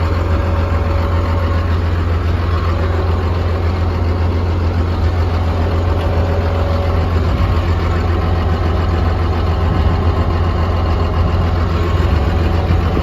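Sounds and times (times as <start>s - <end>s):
bulldozer diesel engine idling: 0.0s - 13.0s.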